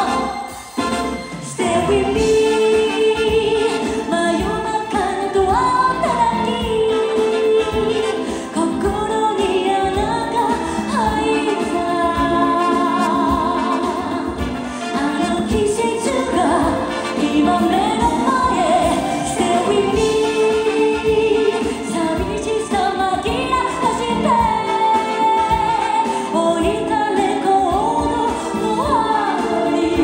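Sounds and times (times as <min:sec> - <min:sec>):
instrumental backing music: 0:00.0 - 0:30.0
woman singing into microphone: 0:00.0 - 0:30.0.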